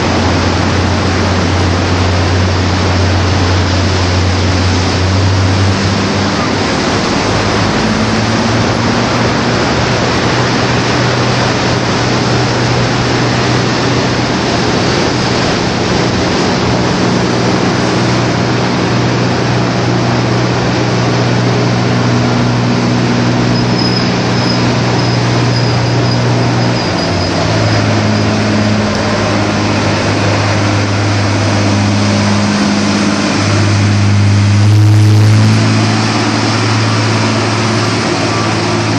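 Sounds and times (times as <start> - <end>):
background rush of noise: 0.0 - 38.9
tractor diesel engine running: 0.0 - 38.9.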